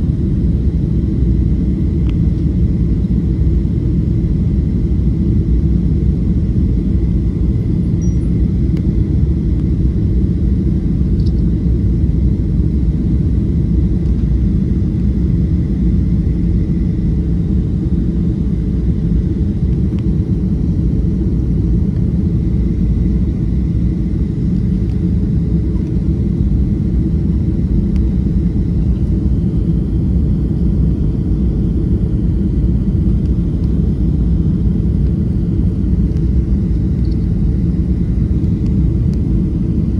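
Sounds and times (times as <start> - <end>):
faint steady whine: 0.0 - 39.9
jet engines and airflow rumble: 0.0 - 39.9.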